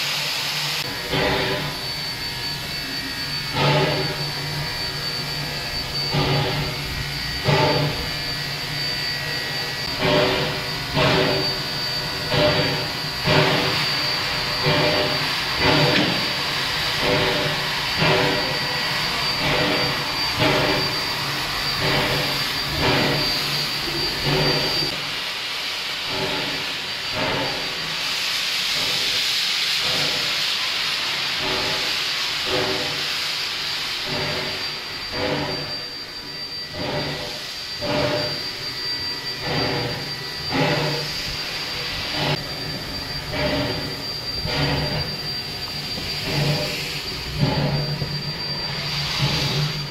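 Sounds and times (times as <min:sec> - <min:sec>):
loud rush of steam: 0:00.0 - 0:49.9
steady steam hiss: 0:00.0 - 0:49.9
steam locomotive puffing: 0:00.0 - 0:49.9
thin high whistle: 0:00.8 - 0:25.0, 0:31.5 - 0:49.9.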